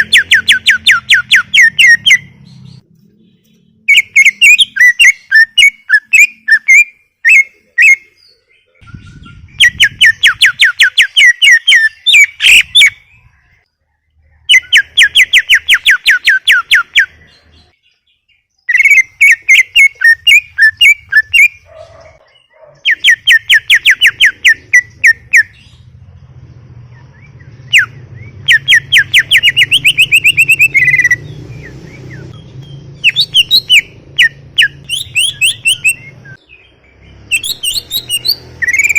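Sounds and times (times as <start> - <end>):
bird singing whistled notes: 0.0 - 26.0, 26.8 - 38.9.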